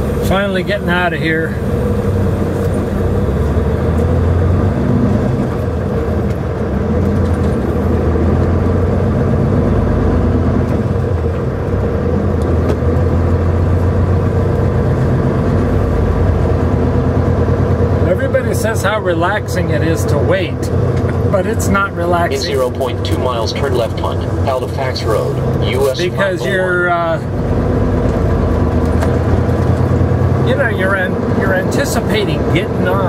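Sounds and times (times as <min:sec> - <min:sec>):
truck diesel engine droning: 0:00.0 - 0:33.0.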